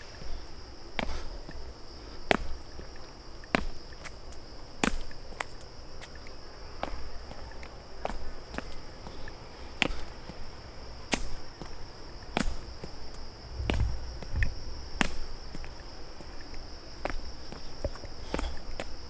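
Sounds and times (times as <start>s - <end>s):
footsteps on a trail: 0.0s - 19.0s
insects buzzing: 0.0s - 19.0s.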